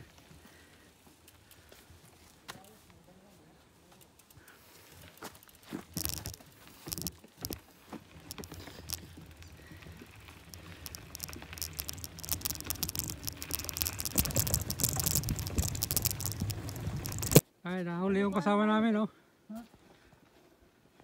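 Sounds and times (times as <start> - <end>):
bike rattling on dirt trail: 0.0 - 17.4.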